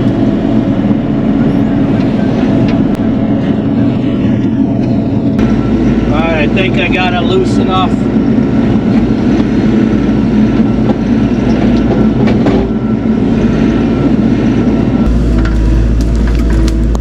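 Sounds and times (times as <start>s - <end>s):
deep low rumble: 0.0s - 17.0s
excavator diesel engine running: 0.0s - 17.0s.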